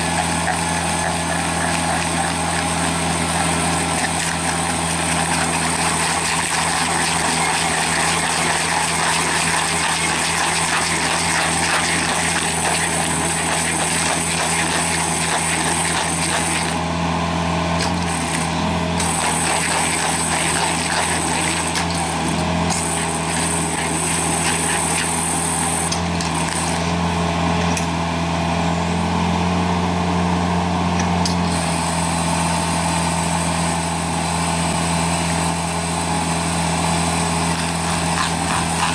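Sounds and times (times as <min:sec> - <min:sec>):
large machine engine running: 0:00.0 - 0:38.9.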